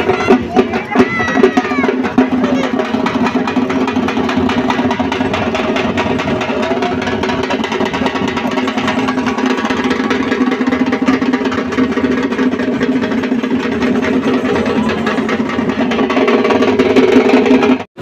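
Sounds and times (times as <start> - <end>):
drums beaten with sticks: 0.0 - 18.0.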